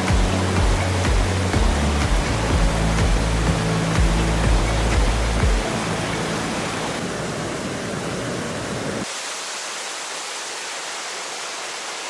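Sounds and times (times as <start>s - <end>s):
waterfall rushing: 0.0s - 12.0s
whitewater pouring over rocks: 0.0s - 12.0s.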